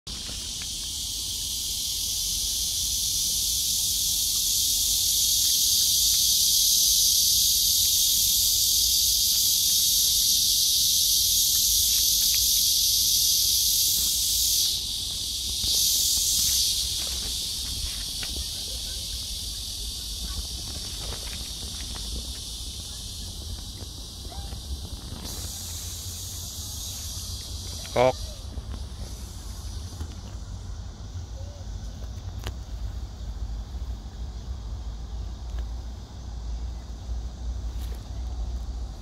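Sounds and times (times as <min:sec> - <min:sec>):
insect chorus buzzing: 0:00.1 - 0:39.0.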